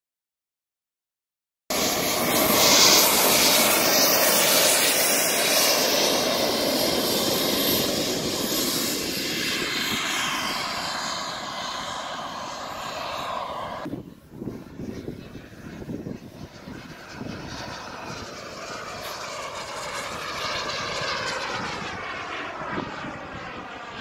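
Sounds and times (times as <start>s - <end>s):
jet aircraft flying past: 1.7s - 24.0s.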